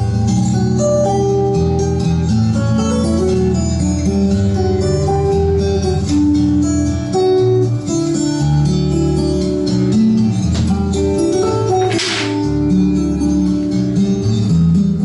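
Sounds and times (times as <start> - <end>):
recorded guitar music over loudspeakers: 0.0 - 15.0.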